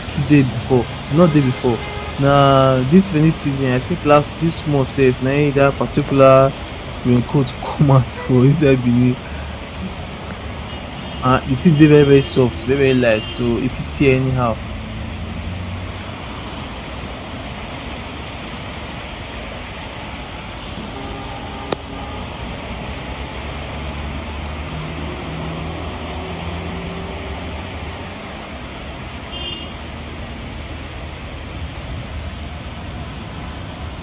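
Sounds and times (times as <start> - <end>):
car traffic on wet road: 0.0 - 34.0
rain: 0.0 - 34.0.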